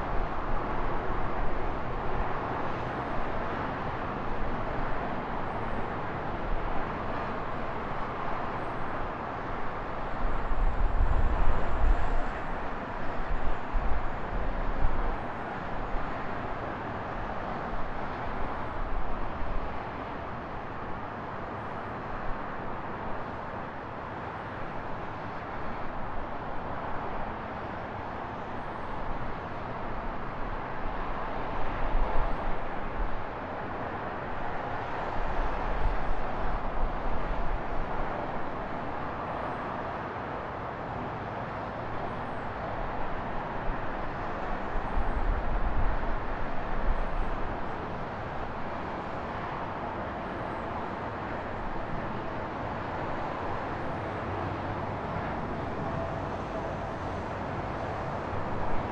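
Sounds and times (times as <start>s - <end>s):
traffic and road noise: 0.0s - 58.9s.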